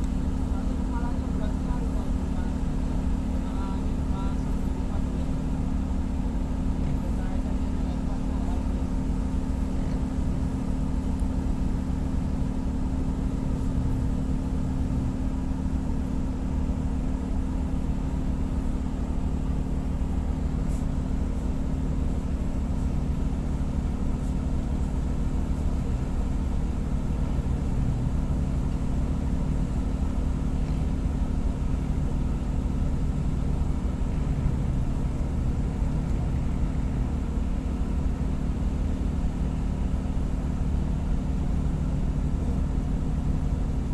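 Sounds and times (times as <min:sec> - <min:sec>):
ship diesel engines rumbling: 0:00.1 - 0:43.0.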